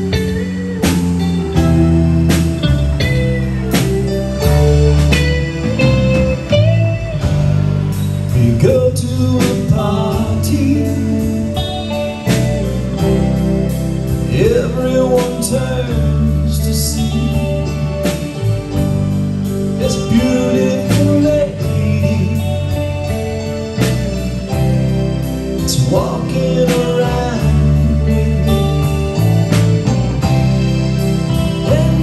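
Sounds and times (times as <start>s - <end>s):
live rock ballad band: 0.0s - 32.0s.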